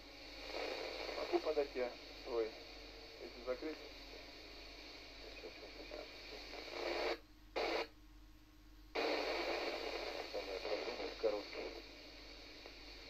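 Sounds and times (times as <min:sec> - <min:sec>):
radio receiver hiss: 0:00.0 - 0:08.0, 0:08.9 - 0:13.0.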